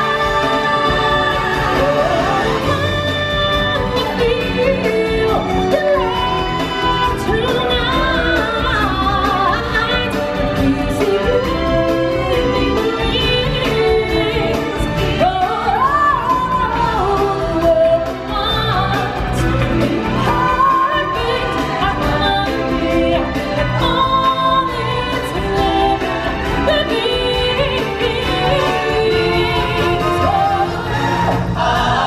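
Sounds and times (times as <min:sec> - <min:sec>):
instrumental music track: 0:00.0 - 0:32.0.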